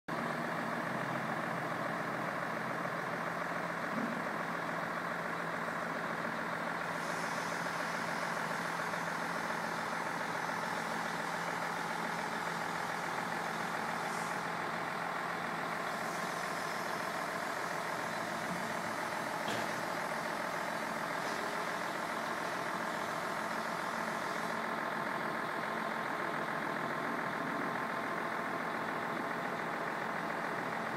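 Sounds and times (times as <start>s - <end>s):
heavy machinery engine running: 0.1s - 30.9s.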